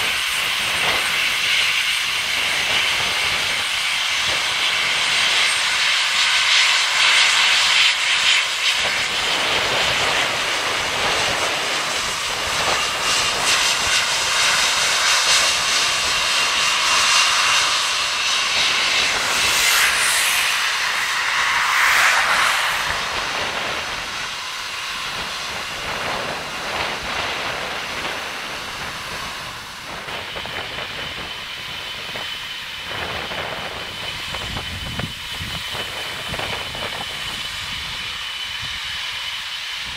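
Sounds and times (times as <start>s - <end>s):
jet engines whine and hiss: 0.0s - 39.9s.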